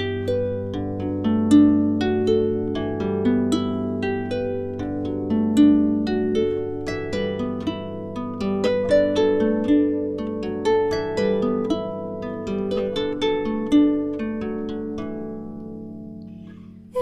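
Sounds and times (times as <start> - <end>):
harp music: 0.0 - 17.0.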